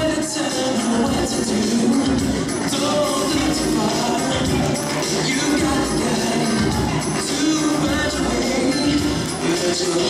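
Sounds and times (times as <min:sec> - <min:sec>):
dance music playing: 0:00.0 - 0:10.0.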